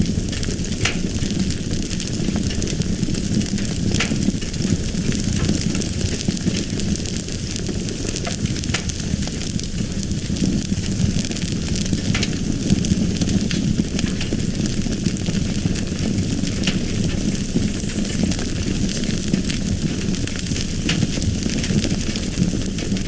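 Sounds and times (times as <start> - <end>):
fire burning with crackles: 0.0 - 23.0.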